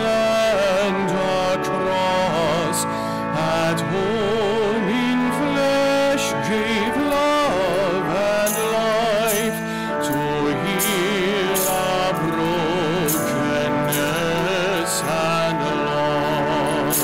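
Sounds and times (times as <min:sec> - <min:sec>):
person singing a hymn with vibrato: 0:00.0 - 0:17.0
sustained instrumental accompaniment: 0:00.0 - 0:17.0.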